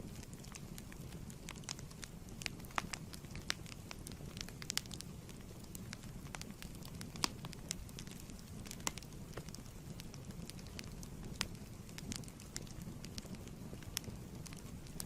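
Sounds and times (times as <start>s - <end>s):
fire snaps and pops: 0.0s - 15.0s
fireplace fire crackling: 0.0s - 15.0s.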